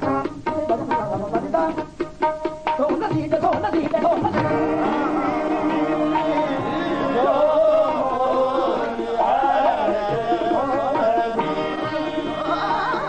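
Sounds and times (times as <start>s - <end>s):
tabla drumming: 0.0s - 13.0s.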